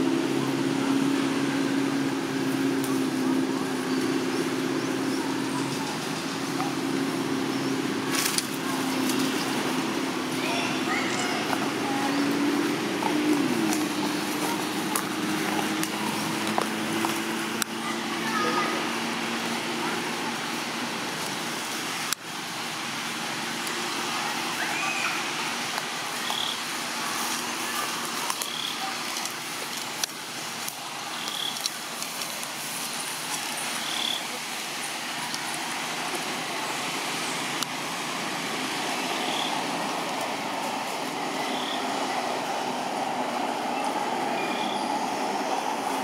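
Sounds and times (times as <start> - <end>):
rushing outdoor background noise: 0.0 - 46.0.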